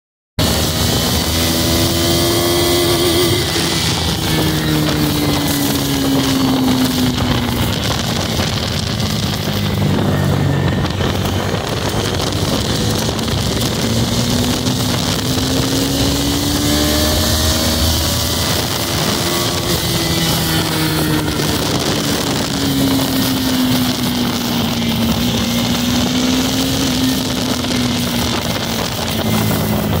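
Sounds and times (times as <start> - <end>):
motorcycle engine revving: 0.4 - 30.0
wind rushing over microphone: 0.4 - 30.0.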